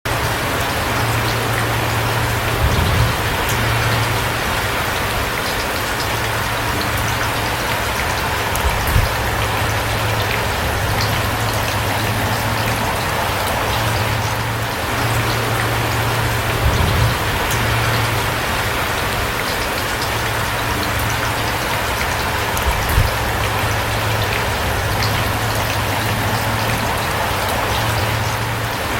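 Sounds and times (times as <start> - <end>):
steady rain falling: 0.0 - 28.9
low steady hum: 0.1 - 28.9.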